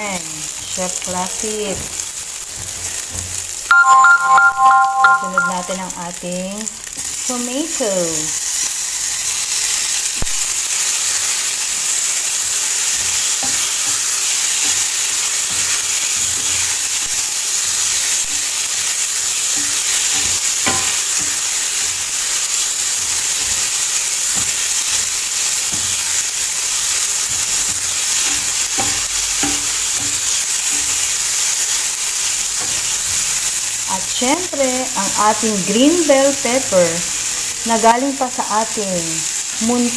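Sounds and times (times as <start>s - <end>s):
vegetables sizzling in hot oil: 0.0s - 39.9s.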